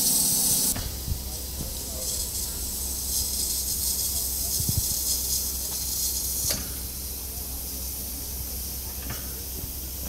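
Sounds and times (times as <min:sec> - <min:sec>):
steam hissing: 0:00.0 - 0:10.0.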